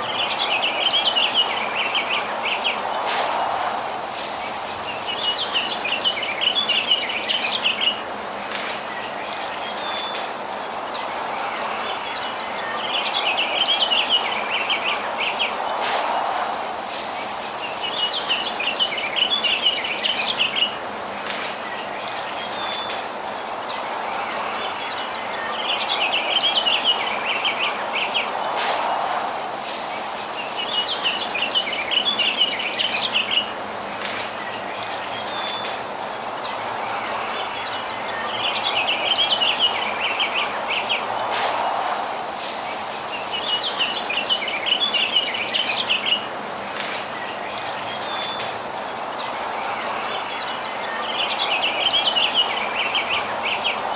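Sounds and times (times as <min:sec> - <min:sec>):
outdoor ambience rush: 0:00.0 - 0:53.9
songbirds twittering: 0:00.0 - 0:53.9.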